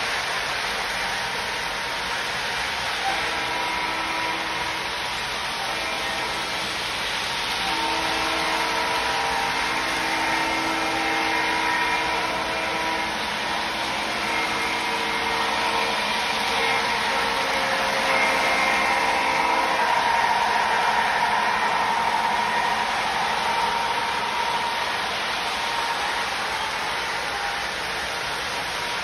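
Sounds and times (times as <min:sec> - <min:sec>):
model train motors whirring: 0:00.0 - 0:29.0
held whines: 0:03.0 - 0:28.0.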